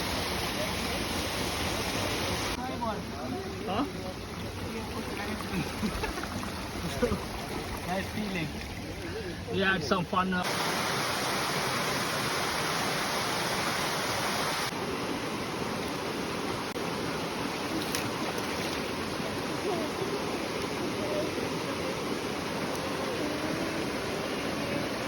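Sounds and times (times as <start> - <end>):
flowing water hissing: 0.0 - 25.0.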